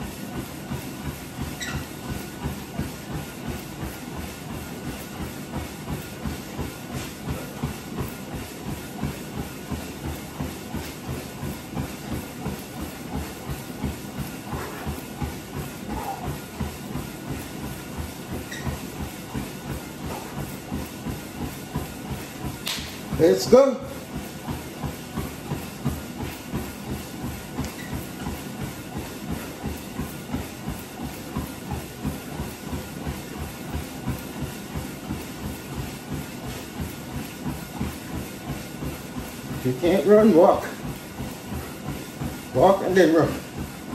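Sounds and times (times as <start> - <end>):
feet thudding on treadmill belt: 0.0 - 43.9
treadmill belt and motor hiss: 0.0 - 43.9.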